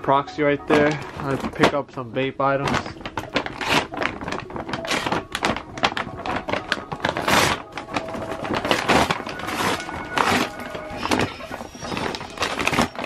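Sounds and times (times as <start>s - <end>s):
paper bag crinkling: 0.6s - 13.0s.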